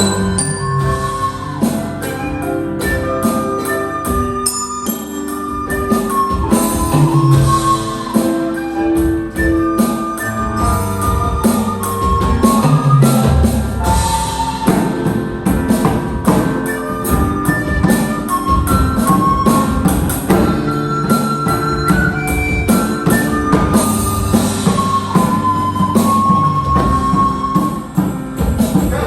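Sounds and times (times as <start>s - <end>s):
drum kit beat: 0.0s - 29.0s
live band playing instrumental music: 0.0s - 29.0s.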